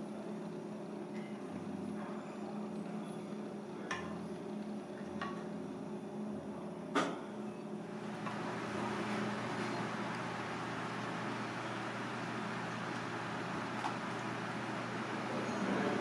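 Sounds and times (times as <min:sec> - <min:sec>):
low kitchen hum: 0:00.0 - 0:16.0.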